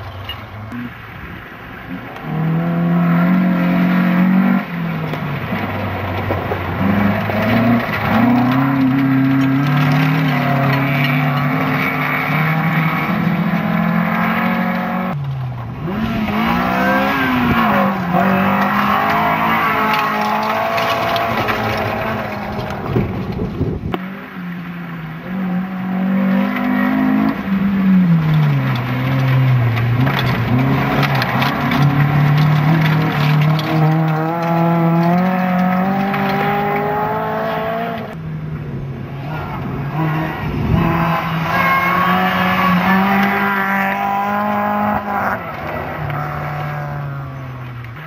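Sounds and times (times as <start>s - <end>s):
rally car engines revving: 0.0s - 48.0s.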